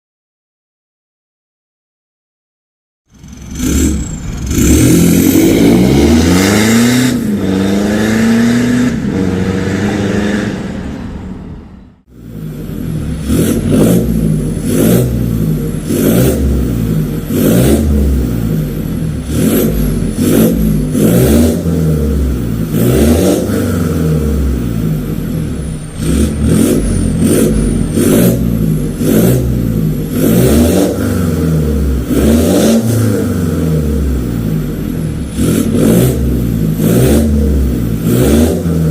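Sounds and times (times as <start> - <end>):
car engine revving: 3.1 - 38.9.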